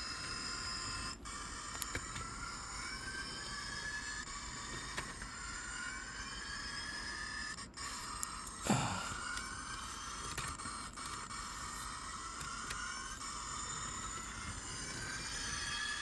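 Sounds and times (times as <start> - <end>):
model train motor whine: 0.0 - 16.0.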